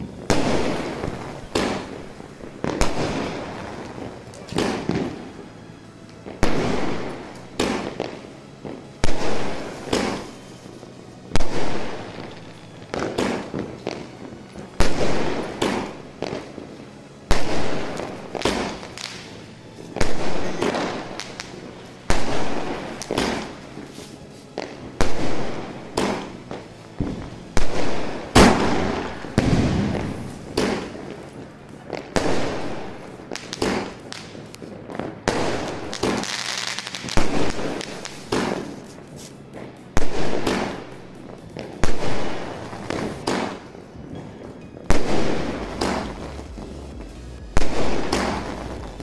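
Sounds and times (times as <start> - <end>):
firework shots banging: 0.0 - 5.3, 6.3 - 10.5, 17.3 - 23.8, 24.6 - 49.0.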